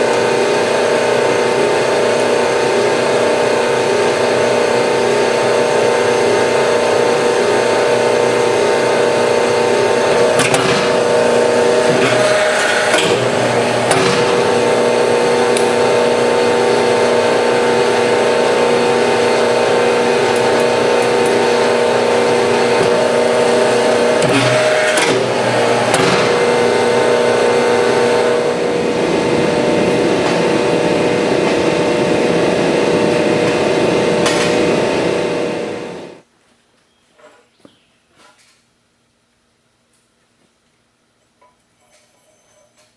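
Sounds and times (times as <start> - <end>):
hydraulic press humming: 0.0 - 36.2
rough noisy machine sound: 0.0 - 36.3.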